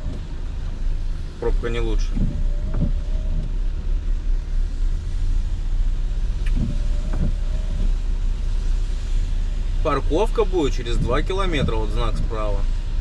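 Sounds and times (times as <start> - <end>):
low engine and road rumble: 0.0 - 13.0
windscreen wiper sweeping glass: 0.0 - 13.0.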